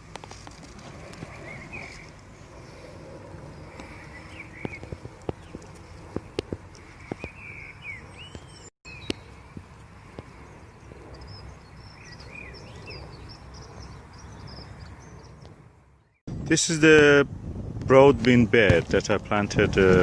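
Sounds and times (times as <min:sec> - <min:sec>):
birds chirping: 0:00.0 - 0:16.3.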